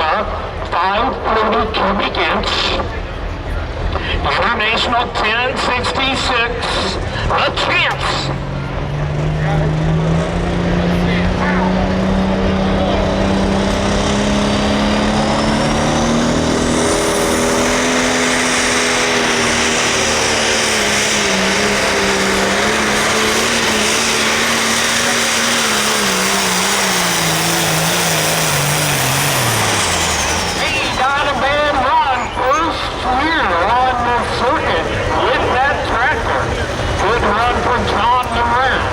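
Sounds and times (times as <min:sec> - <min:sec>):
diesel tractor engine running flat out: 0:00.0 - 0:38.9.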